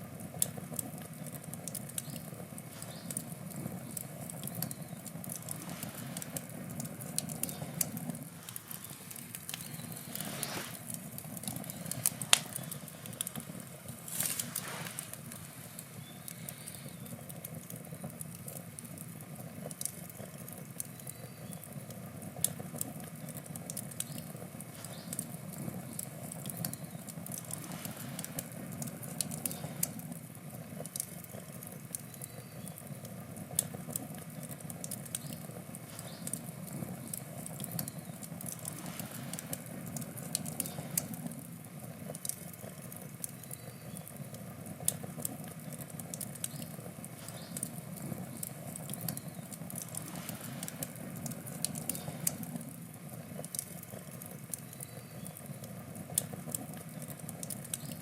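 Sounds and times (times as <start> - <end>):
burning wood crackling: 0.0 - 58.0
campfire flames rushing: 0.0 - 58.0.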